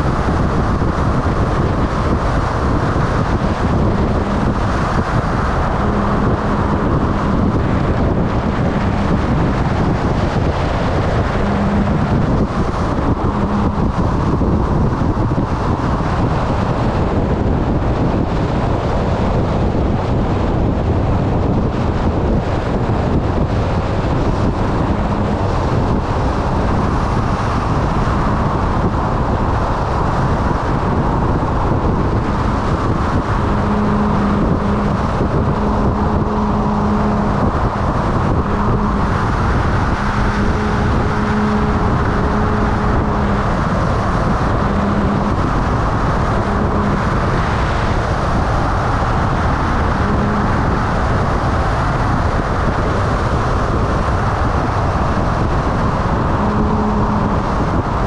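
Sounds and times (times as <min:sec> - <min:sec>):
low steady hum: 0:00.0 - 0:58.0
wind and road noise: 0:00.0 - 0:58.0.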